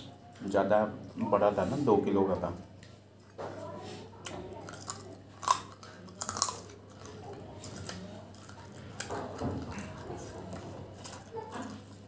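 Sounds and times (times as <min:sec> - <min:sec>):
biting and chewing food: 0:02.3 - 0:12.0.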